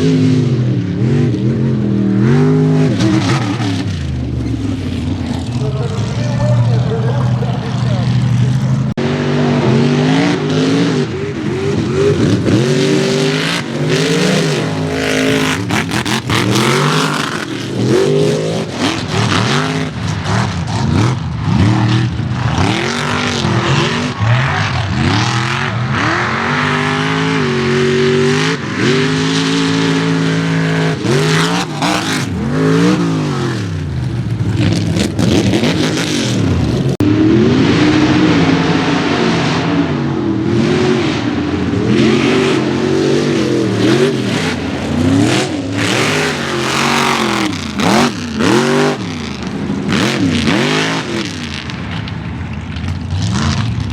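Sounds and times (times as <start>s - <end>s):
truck engines revving hard: 0.0s - 53.9s.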